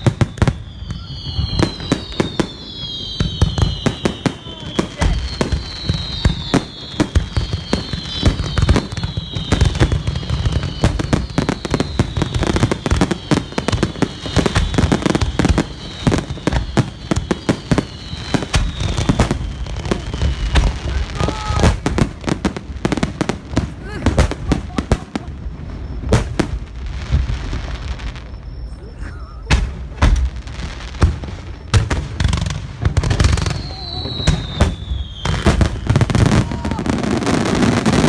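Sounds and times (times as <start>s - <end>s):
fireworks whistles sliding down: 0.0s - 23.1s, 24.1s - 38.0s
fireworks crackling bangs: 0.0s - 38.0s.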